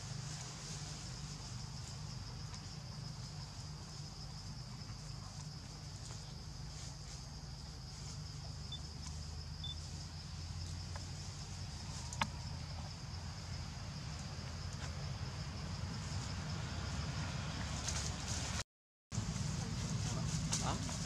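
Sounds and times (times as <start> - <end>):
high insect drone: 0.0 - 18.6, 19.2 - 21.0.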